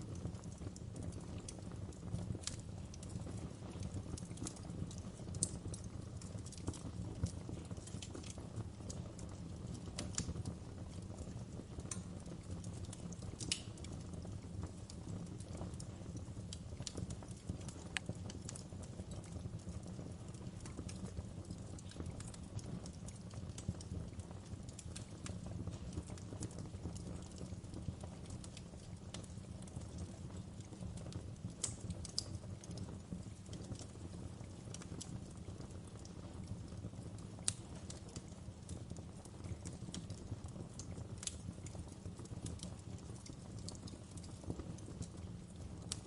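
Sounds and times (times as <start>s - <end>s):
fire crackling and popping: 0.0s - 46.0s
fire rumbling: 0.0s - 46.0s.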